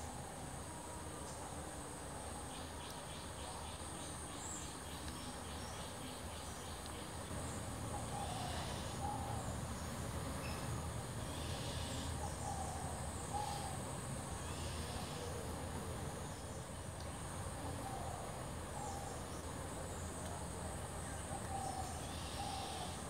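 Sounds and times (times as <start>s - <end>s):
forest birds calling: 2.3s - 23.0s.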